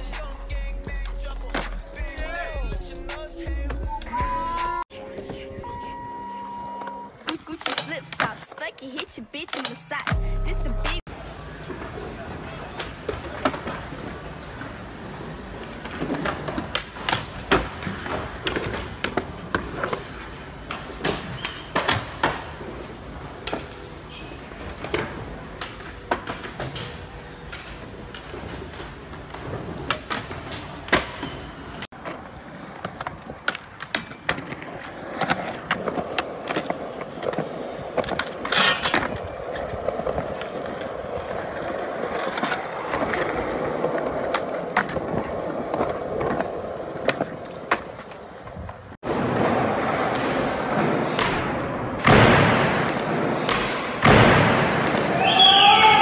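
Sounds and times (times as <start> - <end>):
skateboard clacks: 7.2 - 10.1, 11.5 - 55.4
skateboard rolling on concrete: 11.0 - 56.0.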